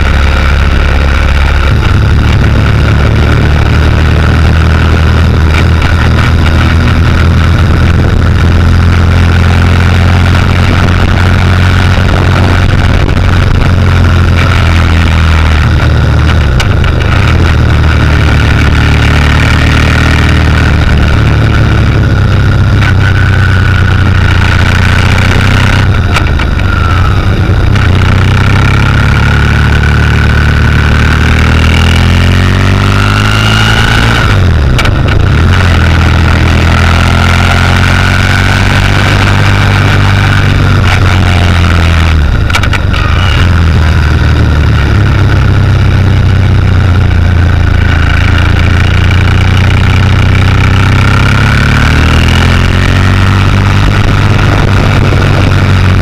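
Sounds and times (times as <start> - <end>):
motorcycle engine running: 0.0 - 56.0
rushing noise: 0.0 - 56.0.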